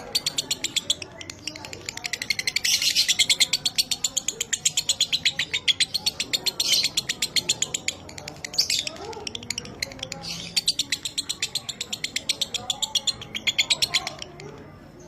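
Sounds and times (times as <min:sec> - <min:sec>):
lovebird chattering trill: 0:00.0 - 0:14.5.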